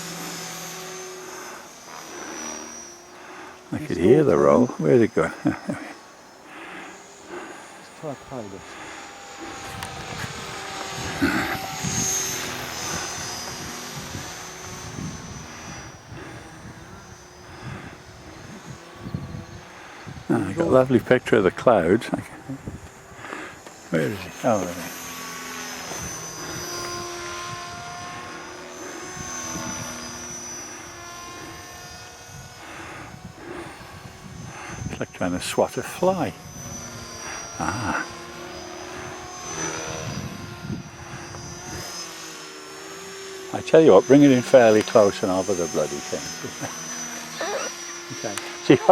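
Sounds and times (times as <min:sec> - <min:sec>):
model helicopter motor whine: 0:00.0 - 0:48.9.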